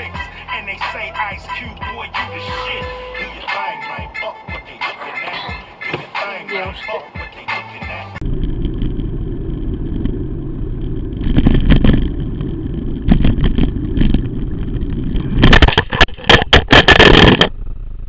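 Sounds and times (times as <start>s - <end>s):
engine and road noise rumble: 0.0s - 18.0s.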